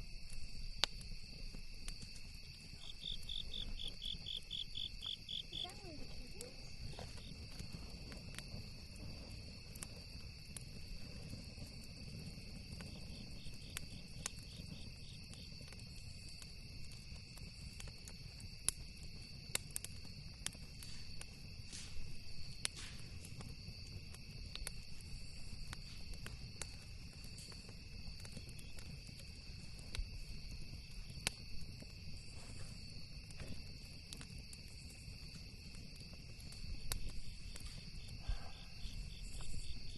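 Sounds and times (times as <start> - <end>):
campfire crackling and popping: 0.0 - 39.9
high insect trill: 0.0 - 39.9.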